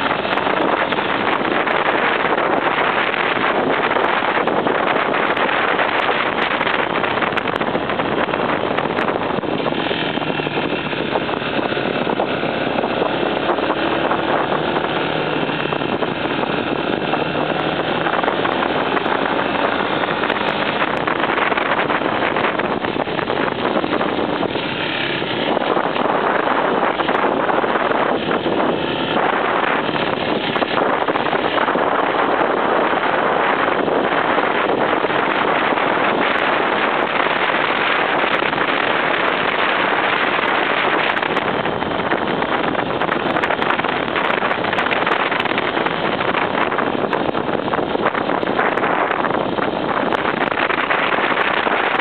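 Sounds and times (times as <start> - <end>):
motorcycle engine running: 0.0 - 52.0
wind noise on microphone: 0.0 - 52.0.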